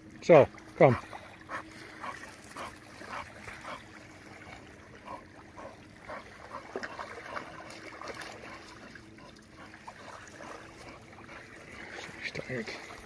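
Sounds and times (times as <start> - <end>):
lake water lapping and splashing: 0.0 - 13.0.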